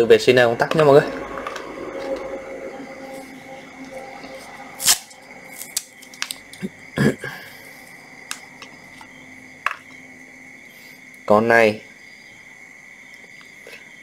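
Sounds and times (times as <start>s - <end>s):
faint steady high tone: 0.0s - 12.5s.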